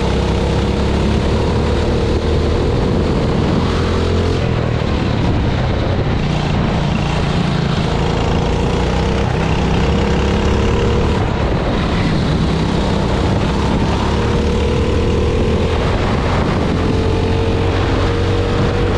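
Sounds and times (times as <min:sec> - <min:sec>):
go-kart engine running hard: 0:00.0 - 0:18.9.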